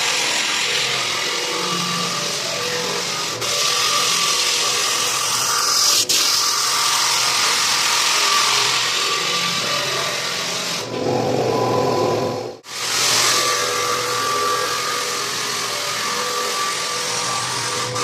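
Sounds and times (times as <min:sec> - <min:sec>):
floor sanding machine grinding wood: 0:00.0 - 0:18.0.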